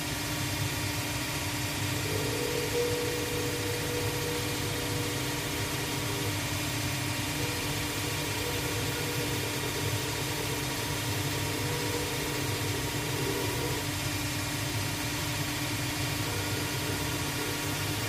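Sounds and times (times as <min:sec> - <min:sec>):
finishing machine cutter whirring: 0:01.2 - 0:18.0.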